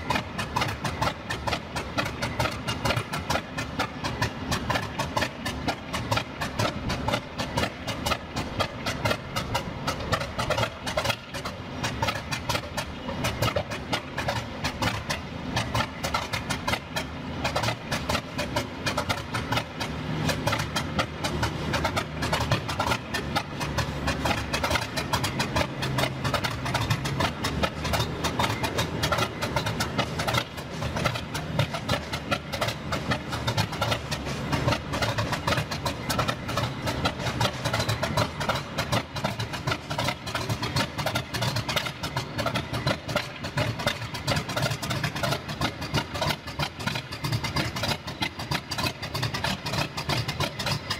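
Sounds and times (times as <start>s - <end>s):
diesel locomotive idling: 0.0s - 50.9s.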